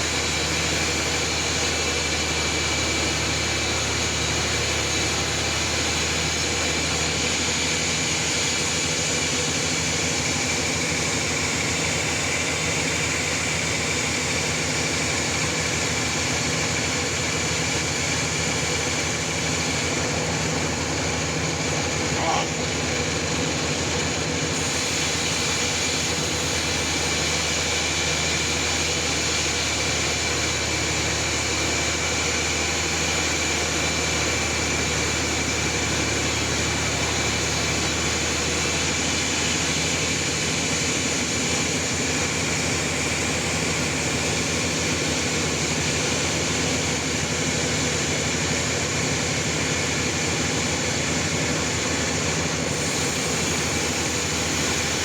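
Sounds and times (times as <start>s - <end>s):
high machine whine: 0.0s - 55.0s
sawmill machine drone: 0.0s - 55.0s.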